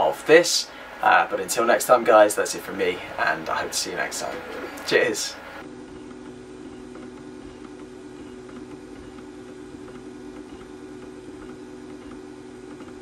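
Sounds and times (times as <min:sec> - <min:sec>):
printer humming: 0:00.0 - 0:13.0.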